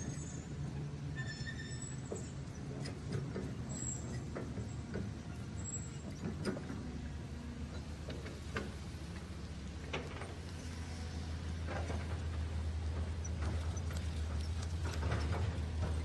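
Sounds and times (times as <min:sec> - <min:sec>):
clicking tracks and gears: 0:00.0 - 0:16.0.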